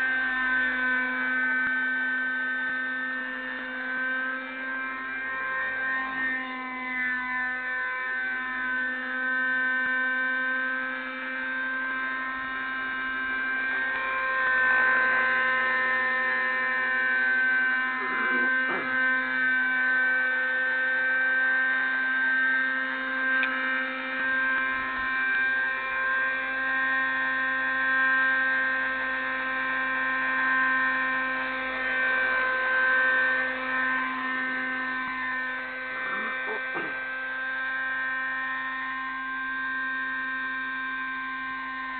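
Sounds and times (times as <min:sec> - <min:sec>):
model helicopter engine whine: 0:00.0 - 0:41.9.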